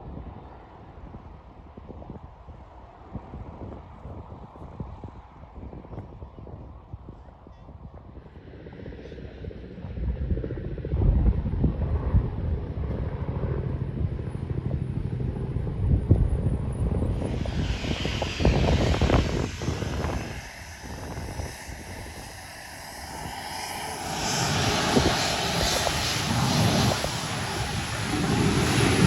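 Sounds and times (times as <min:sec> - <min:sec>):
airliner engines rumbling: 0:02.6 - 0:29.0.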